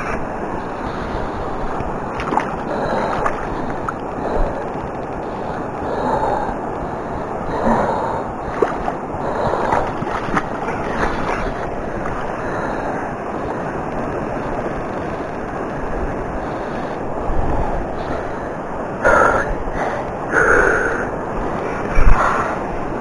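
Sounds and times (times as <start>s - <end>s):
river water: 0.0s - 23.0s
wind on microphone: 0.0s - 23.0s.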